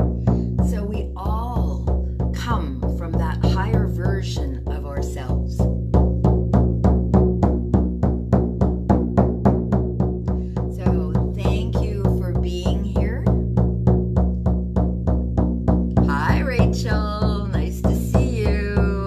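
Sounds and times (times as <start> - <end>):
frame drum booming: 0.0 - 19.0.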